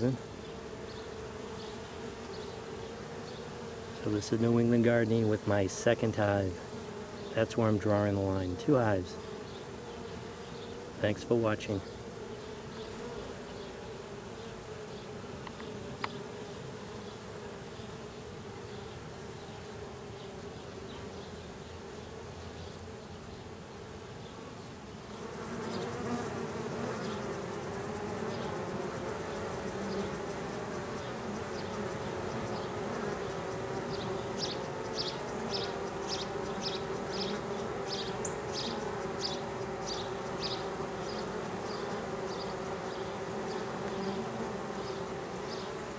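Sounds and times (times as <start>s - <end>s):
honey bees buzzing: 0.0s - 45.9s.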